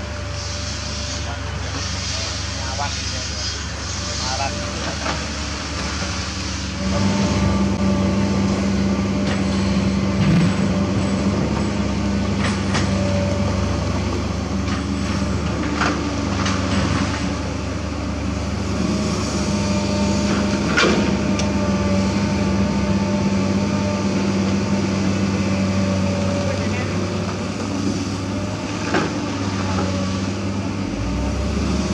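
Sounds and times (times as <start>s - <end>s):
excavator diesel engine under load: 0.0s - 31.9s.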